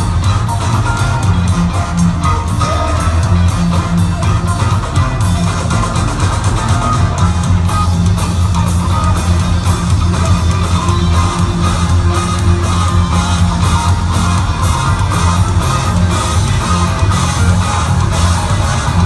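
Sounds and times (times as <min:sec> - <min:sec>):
electric guitar: 0:00.0 - 0:19.0
heavy bass line: 0:00.0 - 0:19.0.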